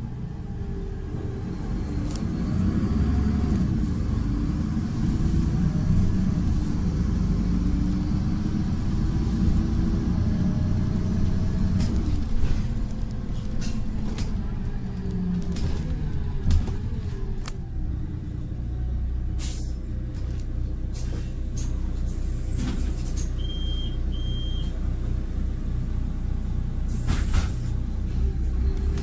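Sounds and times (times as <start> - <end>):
tram wheels rumbling on rails: 0.0 - 23.6, 24.2 - 29.0.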